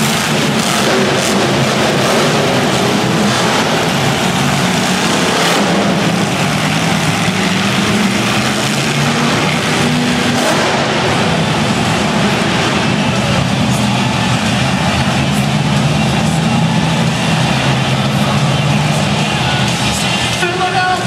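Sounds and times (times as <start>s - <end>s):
monster truck engines rumbling: 0.0s - 21.0s.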